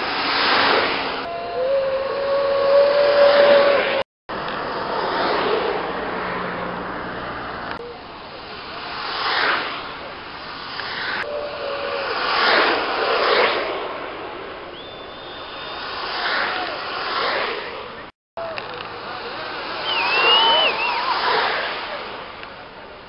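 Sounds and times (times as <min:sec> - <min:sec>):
longboard wheels rolling on asphalt: 0:00.0 - 0:01.3, 0:02.6 - 0:23.0.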